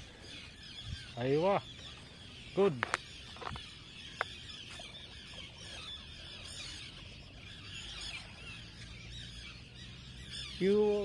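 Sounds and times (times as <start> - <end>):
flock of birds chattering: 0.0 - 11.0.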